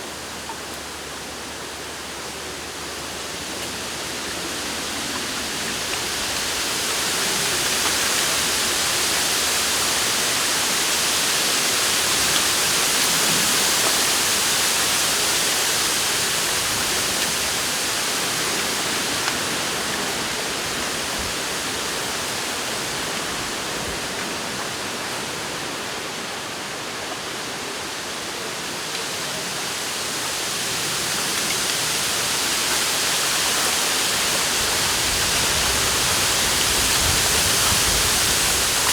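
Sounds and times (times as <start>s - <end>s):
wind rustling bamboo leaves: 0.0s - 38.9s.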